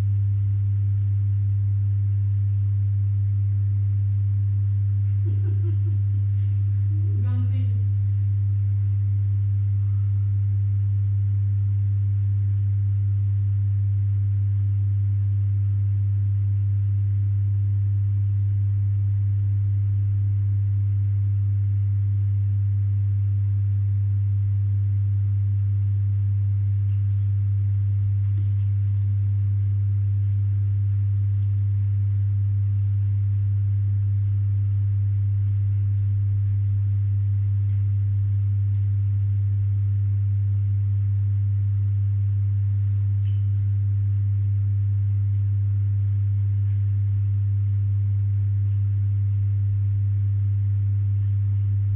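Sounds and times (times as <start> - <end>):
low electrical hum: 0.0 - 51.9.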